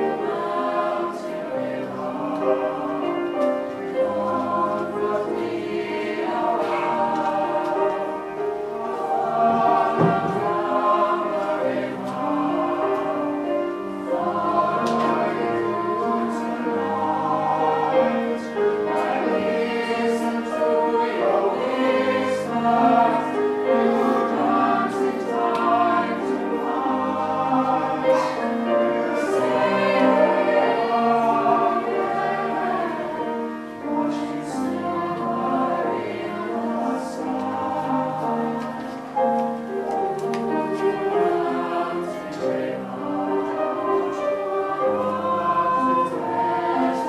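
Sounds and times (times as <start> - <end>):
youth choir singing: 0.0 - 47.0.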